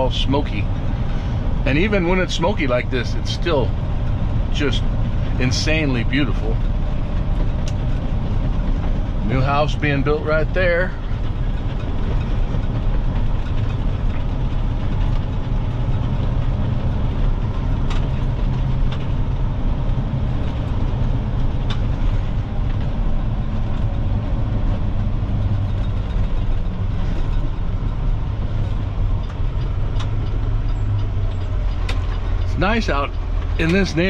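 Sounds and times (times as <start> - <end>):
diesel truck engine rumble: 0.0 - 34.0.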